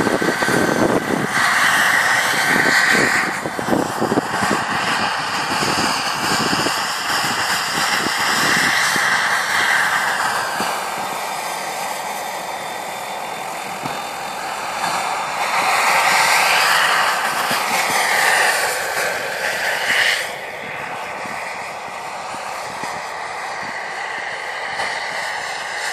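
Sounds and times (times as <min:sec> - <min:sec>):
model helicopter turbine whine: 0:00.0 - 0:25.9
rotor rush: 0:00.0 - 0:25.9.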